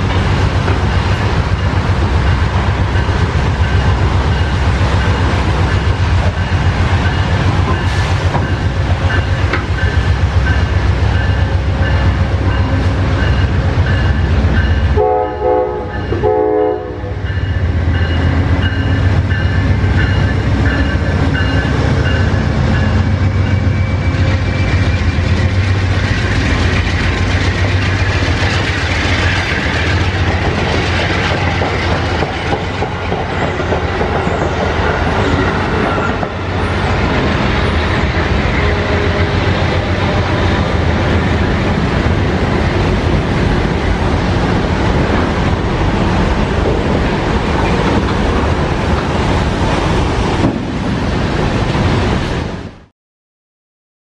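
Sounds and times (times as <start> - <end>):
diesel locomotive engine: 0.0 - 52.9
train wheels rumbling on rails: 0.0 - 52.9.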